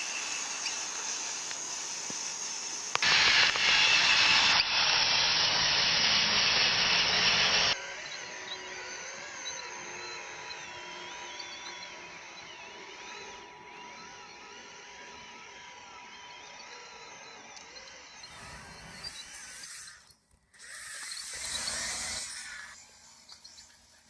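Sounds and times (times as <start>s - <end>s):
model motor running loudly: 0.0s - 24.0s
quieter motor whine: 0.0s - 24.0s.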